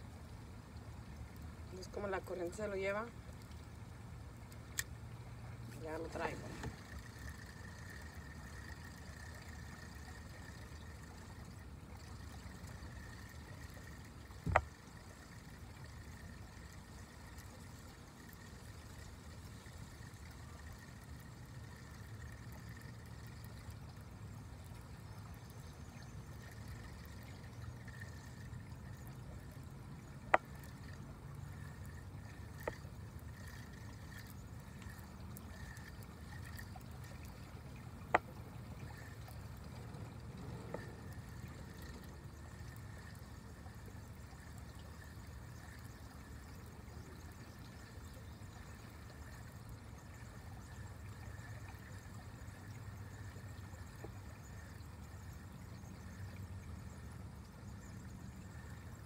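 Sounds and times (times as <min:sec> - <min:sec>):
water trickling and lapping: 0:00.0 - 0:59.0.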